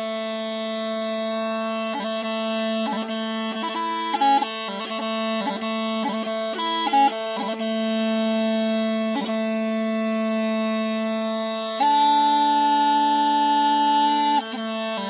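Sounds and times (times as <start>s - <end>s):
bagpipe chanter melody: 0.0s - 15.0s
bagpipe drones: 0.0s - 15.0s.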